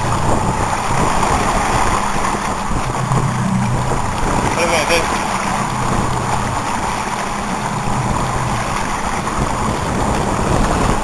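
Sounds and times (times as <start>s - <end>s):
boat engine running low: 0.0s - 11.0s
water washing around boat: 0.0s - 11.0s
wind on microphone: 0.0s - 11.0s.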